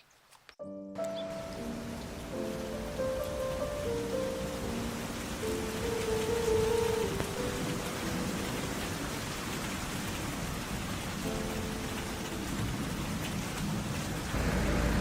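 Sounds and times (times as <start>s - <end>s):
soft background music: 0.6s - 13.7s
steady rain falling: 1.2s - 15.0s.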